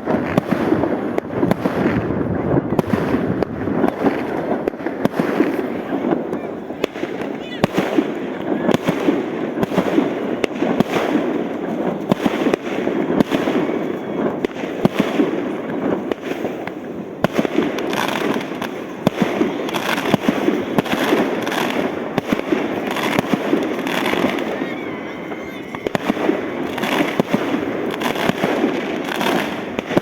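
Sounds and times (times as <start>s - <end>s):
fireworks bangs: 0.0s - 30.0s
fireworks crackle: 0.0s - 30.0s.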